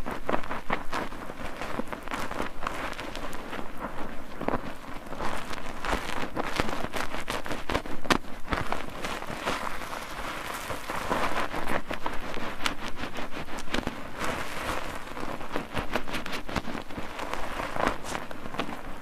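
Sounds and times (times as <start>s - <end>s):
soap foam squishing and popping: 0.0s - 19.0s.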